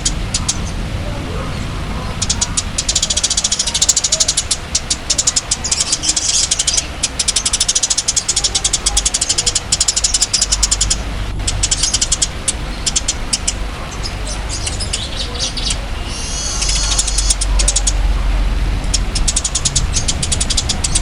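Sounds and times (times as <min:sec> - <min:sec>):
low hum: 0:00.0 - 0:21.0
songbird rattling chatter: 0:00.0 - 0:21.0.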